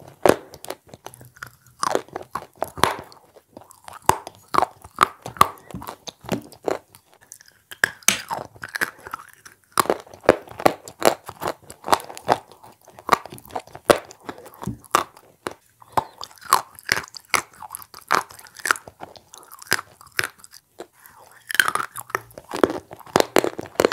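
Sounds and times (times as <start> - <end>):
chewing and crunching chalk: 0.0 - 23.9.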